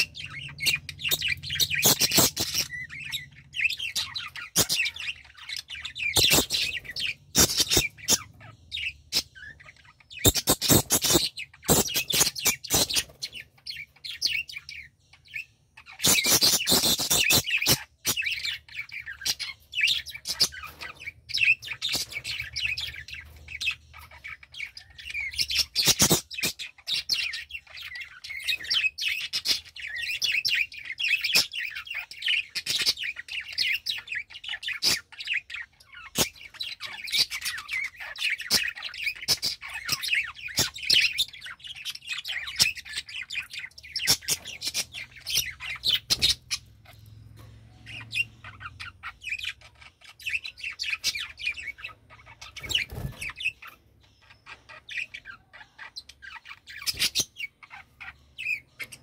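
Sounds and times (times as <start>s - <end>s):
budgerigars chattering and warbling: 0.0s - 59.0s.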